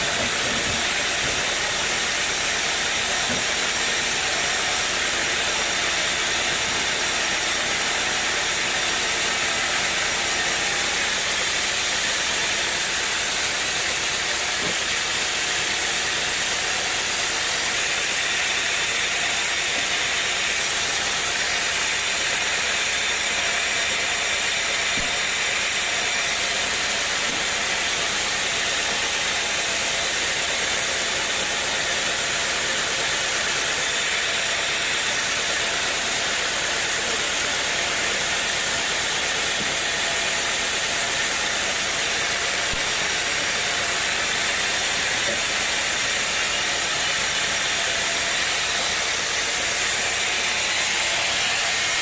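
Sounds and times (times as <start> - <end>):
sawmill machinery hissing: 0.0 - 52.0.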